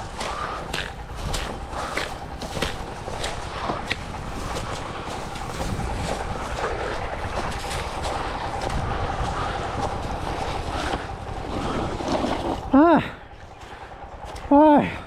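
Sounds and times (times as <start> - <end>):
wind rumbling on microphone: 0.0 - 14.5.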